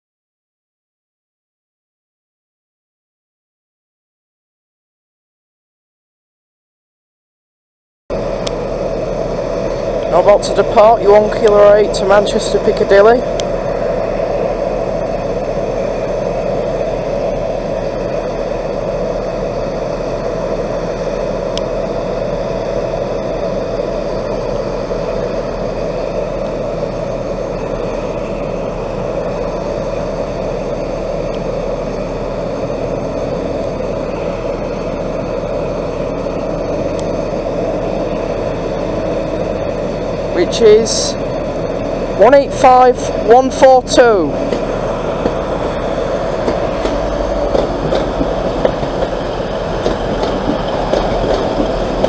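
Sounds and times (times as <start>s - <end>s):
diesel train engine idling: 8.1s - 52.0s.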